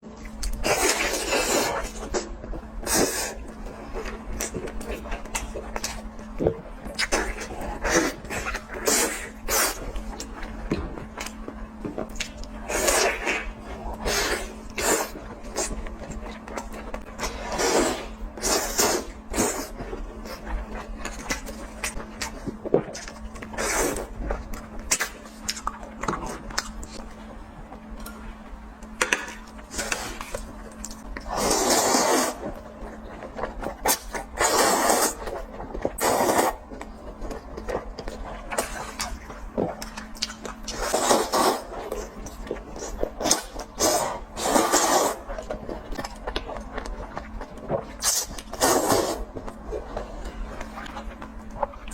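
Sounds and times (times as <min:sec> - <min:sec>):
biting and chewing: 0:00.1 - 0:51.9
loud noisy eating sounds: 0:00.3 - 0:27.1, 0:28.8 - 0:51.9.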